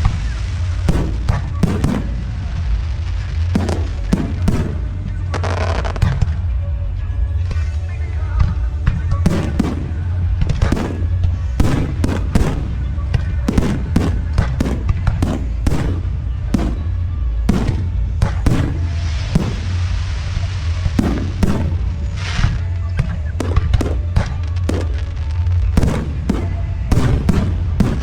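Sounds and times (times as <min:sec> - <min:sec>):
fireworks hiss: 0:00.0 - 0:06.3, 0:09.3 - 0:28.0
fireworks bangs: 0:00.0 - 0:06.5, 0:09.1 - 0:28.0
low rumble: 0:00.0 - 0:28.0.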